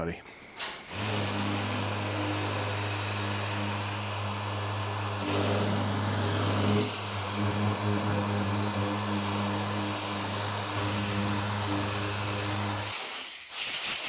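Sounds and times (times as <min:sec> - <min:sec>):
orbital sander running: 0:00.9 - 0:13.0.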